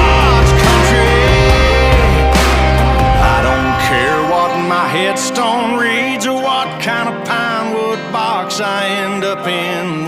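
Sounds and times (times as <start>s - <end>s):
song with guitar and bass: 0.0s - 10.0s.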